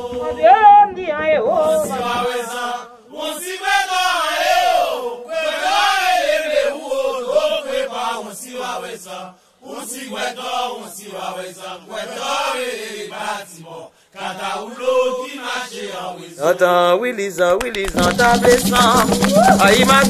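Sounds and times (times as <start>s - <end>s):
person chanting a song: 0.0s - 20.0s.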